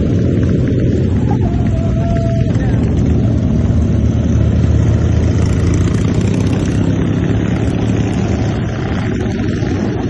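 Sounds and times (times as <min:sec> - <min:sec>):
motorcycle engines running: 0:00.0 - 0:10.0.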